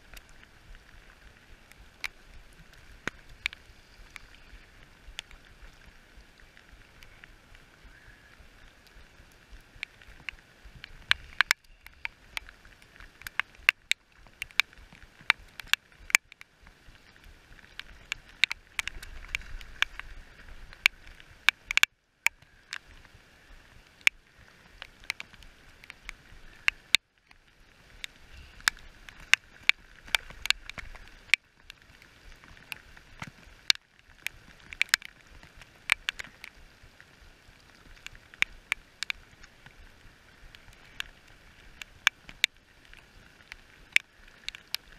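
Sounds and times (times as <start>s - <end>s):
rain hissing on river: 0.0s - 44.9s
raindrops tapping on camera: 0.0s - 44.9s.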